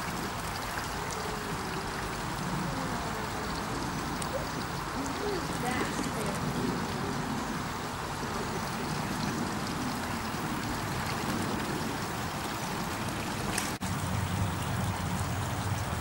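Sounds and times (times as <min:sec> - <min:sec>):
otter splashing: 0:00.0 - 0:15.6
running water rushing: 0:00.0 - 0:16.0.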